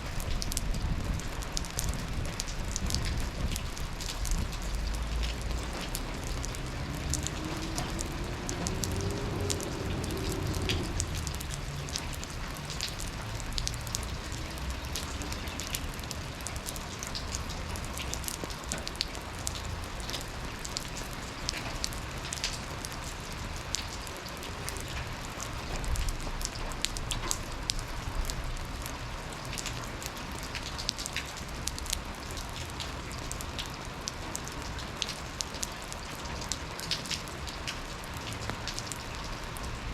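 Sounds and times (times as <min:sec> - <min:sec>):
rain drops tapping hard surfaces: 0:00.0 - 0:39.9
steady hiss of rainfall: 0:00.0 - 0:39.9.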